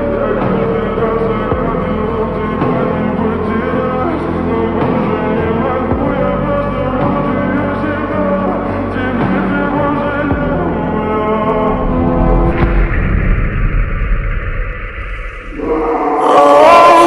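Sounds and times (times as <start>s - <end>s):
person singing: 0.0s - 12.8s, 15.4s - 17.0s.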